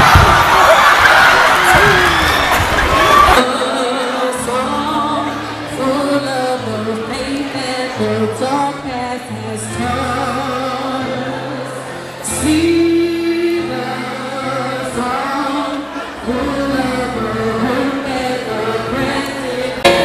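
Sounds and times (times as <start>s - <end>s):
woman singing into a microphone: 3.4s - 20.0s
instrumental backing music: 3.5s - 20.0s.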